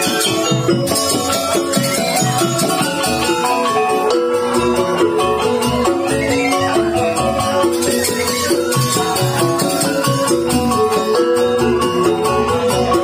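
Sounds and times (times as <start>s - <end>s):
bamboo xylophones playing: 0.0s - 13.0s
hand drums: 0.0s - 13.0s.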